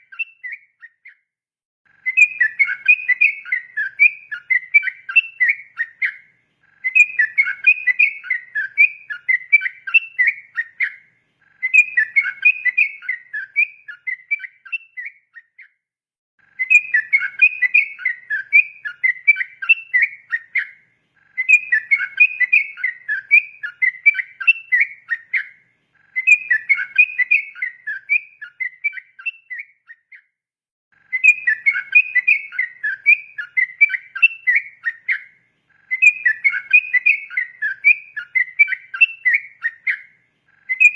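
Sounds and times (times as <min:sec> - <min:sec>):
bulbul singing: 0:00.0 - 0:01.3, 0:01.9 - 0:15.8, 0:16.4 - 0:30.3, 0:31.0 - 0:40.9.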